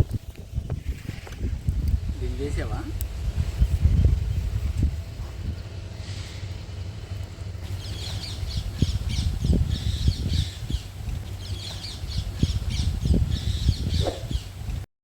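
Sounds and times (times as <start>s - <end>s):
birds chirping: 0.0s - 14.9s
low rumble: 0.0s - 14.9s.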